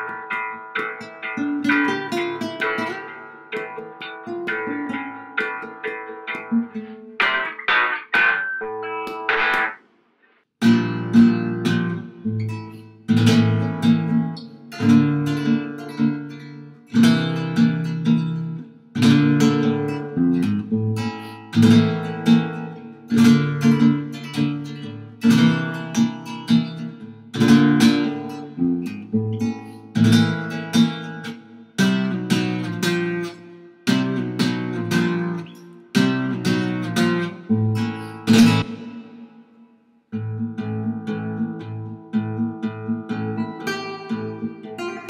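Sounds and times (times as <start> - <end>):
flamenco guitar strumming: 0.0 - 9.9, 10.6 - 45.0.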